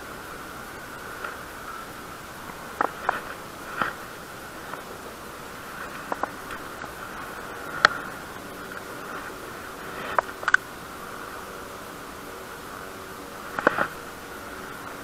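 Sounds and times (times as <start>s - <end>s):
wind hiss on microphone: 0.0s - 15.0s.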